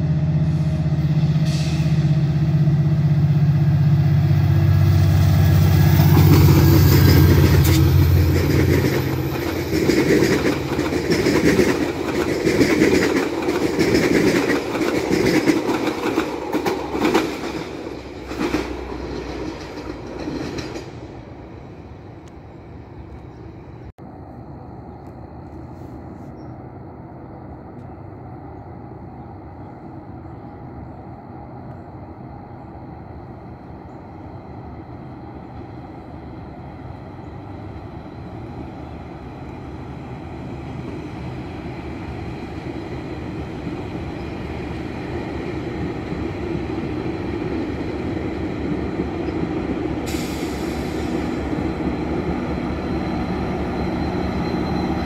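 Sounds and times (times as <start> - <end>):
diesel train rumbling: 0.0 - 55.0.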